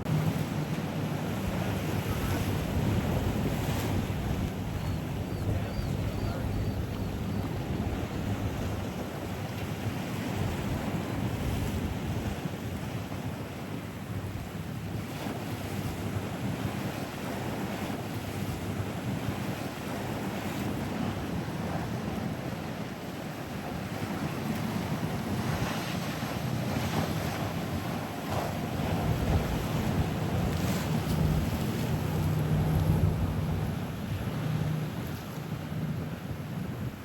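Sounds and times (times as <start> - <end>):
waves washing: 0.0 - 37.0
wind rumbling on microphone: 0.0 - 37.0.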